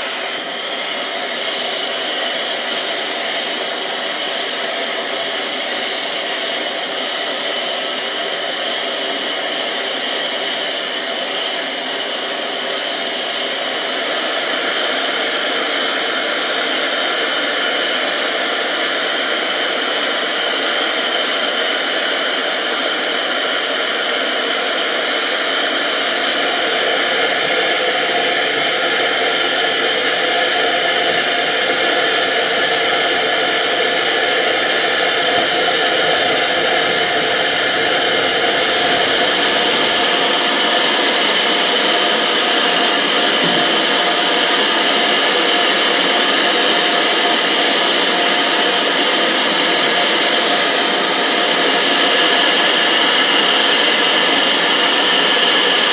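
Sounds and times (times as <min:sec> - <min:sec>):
locomotive steam hissing: 0:00.0 - 0:55.9.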